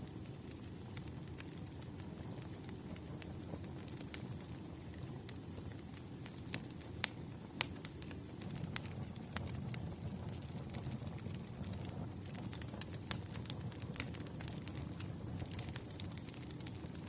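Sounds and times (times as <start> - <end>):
firewood burning with crackles: 0.0 - 17.0.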